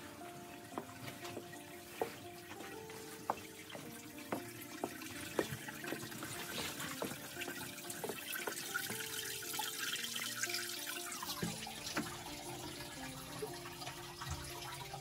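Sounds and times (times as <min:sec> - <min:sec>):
slow background music: 0:00.0 - 0:15.0.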